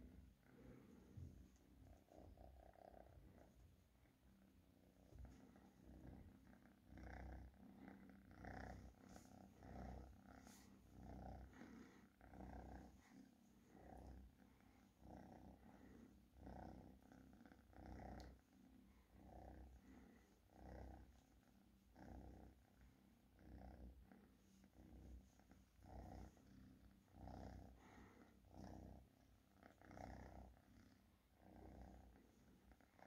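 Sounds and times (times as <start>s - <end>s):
kitten purring: 0.0s - 33.0s.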